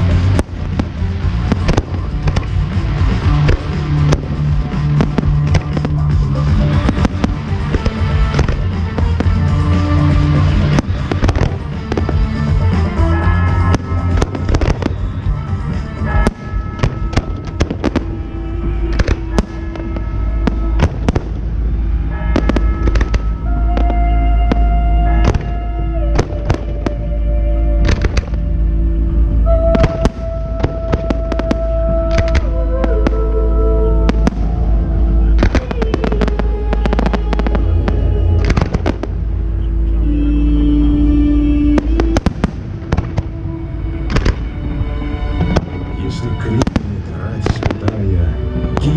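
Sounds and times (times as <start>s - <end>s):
fireworks bangs: 0.0s - 27.2s, 27.8s - 28.5s, 29.6s - 40.0s, 41.0s - 44.5s, 45.3s - 48.9s
music soundtrack: 0.0s - 48.9s.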